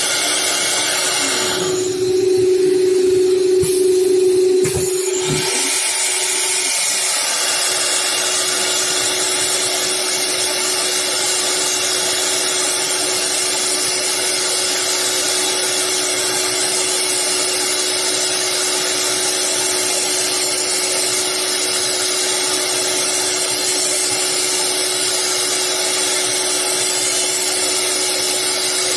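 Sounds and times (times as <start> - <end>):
router spindle cutting wood: 0.0 - 3.7, 4.3 - 28.9.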